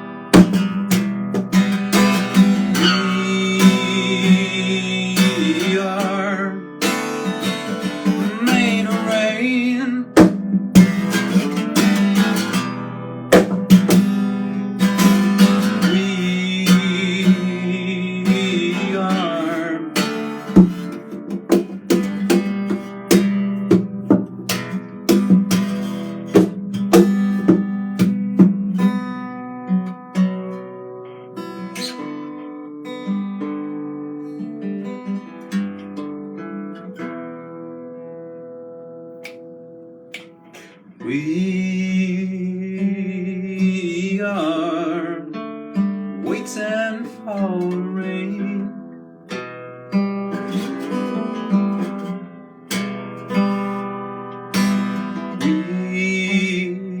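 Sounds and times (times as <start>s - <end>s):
acoustic guitar strummed: 0.0s - 57.0s.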